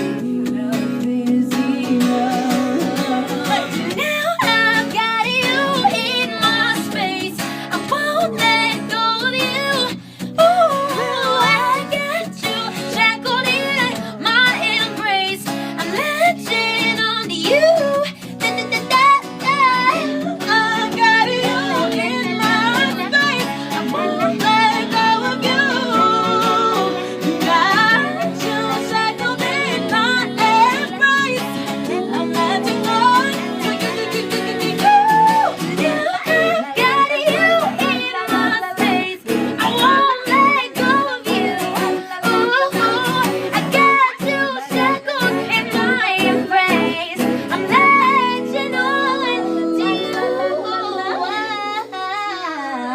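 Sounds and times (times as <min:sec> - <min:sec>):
acoustic guitar: 0:00.0 - 0:52.9
female vocal group singing harmony: 0:00.0 - 0:52.9.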